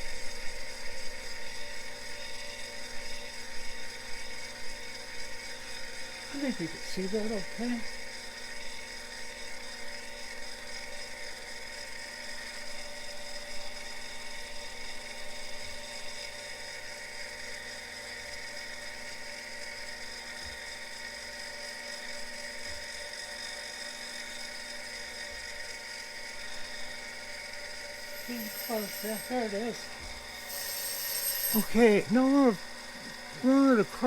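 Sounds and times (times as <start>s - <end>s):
grinding wheel high-pitched whine: 0.0s - 34.0s.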